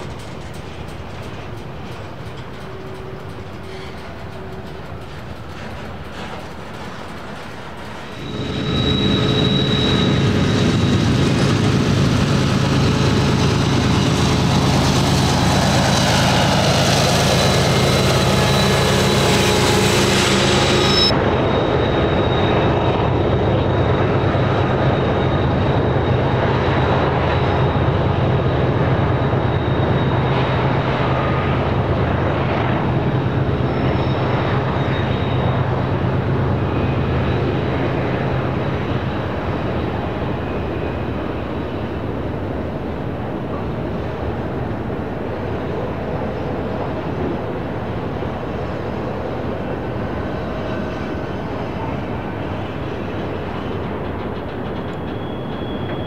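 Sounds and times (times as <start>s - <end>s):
diesel locomotives running: 0.0s - 56.0s.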